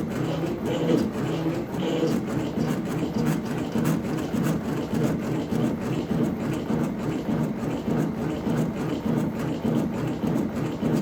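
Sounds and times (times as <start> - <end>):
cnc machine motors whirring: 0.0 - 11.0.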